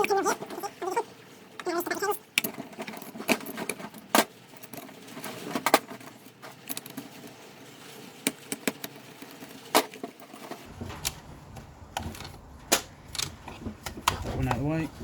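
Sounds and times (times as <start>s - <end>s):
faint steady patter: 0.0s - 15.0s
plastic parts clicking and knocking: 1.6s - 7.3s, 8.2s - 15.0s.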